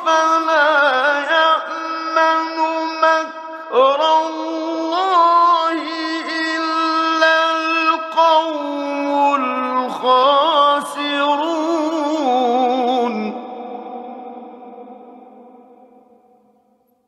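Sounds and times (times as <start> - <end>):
man chanting recitation: 0.0 - 15.5.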